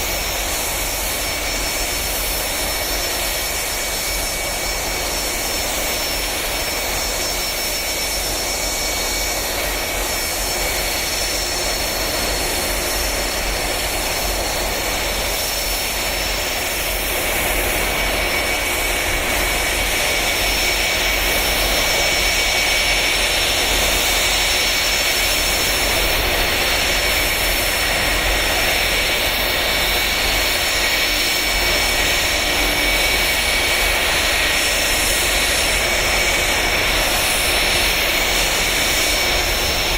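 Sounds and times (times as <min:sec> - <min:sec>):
high jet engine whine: 0:00.0 - 0:39.9
jet engines idling: 0:00.0 - 0:39.9.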